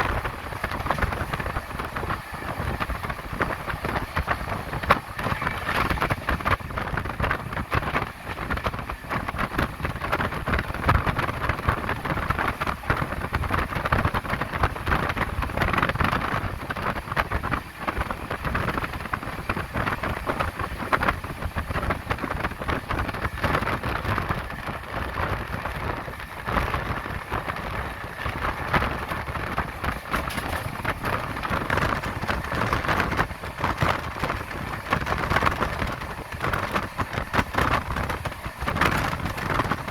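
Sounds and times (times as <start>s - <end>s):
train coach rattling: 0.0s - 39.9s
train wheels on rails: 0.0s - 39.9s.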